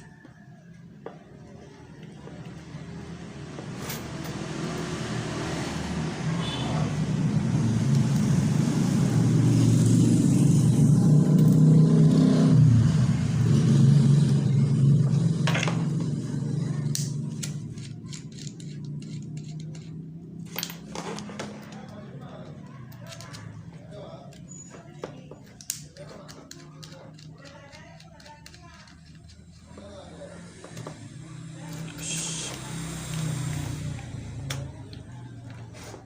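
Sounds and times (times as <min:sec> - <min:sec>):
motor vehicle passing by: 0:00.0 - 0:36.0.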